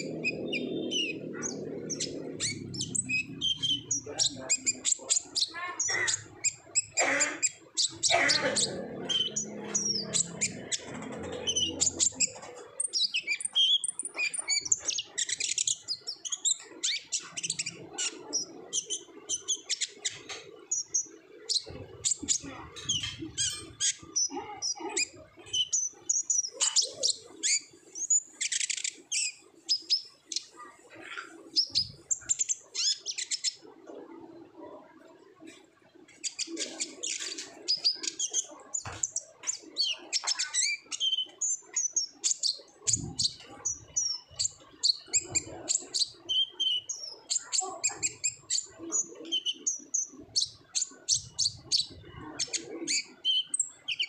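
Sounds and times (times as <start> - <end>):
bird twittering: 0.0 - 33.7, 36.1 - 54.0.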